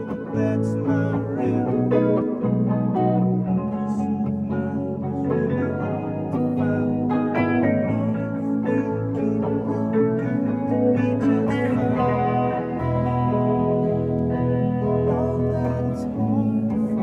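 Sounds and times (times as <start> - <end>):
electric guitars: 0.0 - 17.0
electric keyboard: 0.0 - 17.0.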